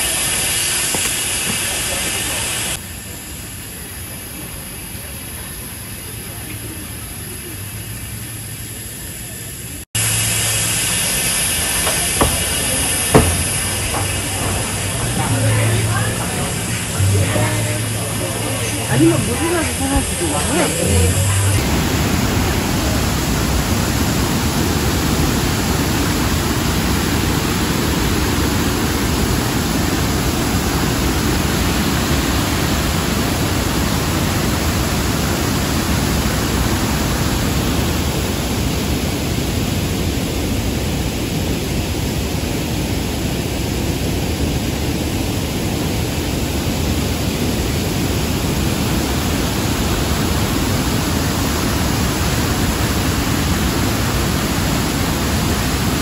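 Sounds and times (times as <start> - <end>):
waterfall rushing: 10.0 - 56.0.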